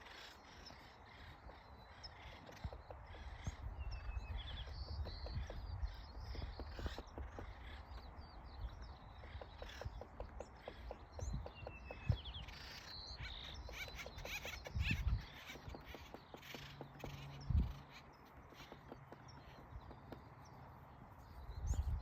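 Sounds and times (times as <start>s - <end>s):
birds chirping: 0.0s - 22.0s
woodpecker pecking at wood: 1.2s - 3.7s, 4.3s - 21.0s.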